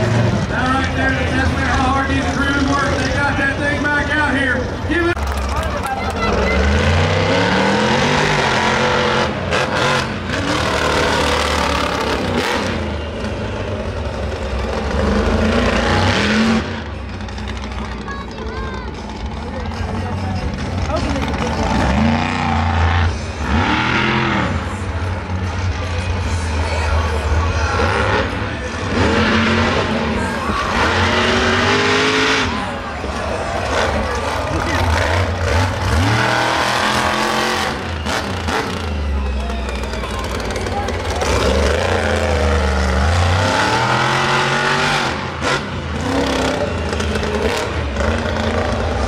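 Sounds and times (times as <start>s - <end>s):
monster truck engine revving: 0.0s - 49.0s.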